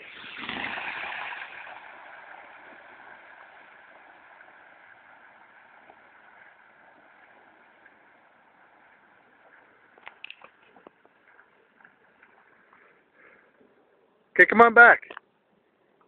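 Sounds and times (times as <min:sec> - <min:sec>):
car tyres swishing through water: 0:00.0 - 0:13.2.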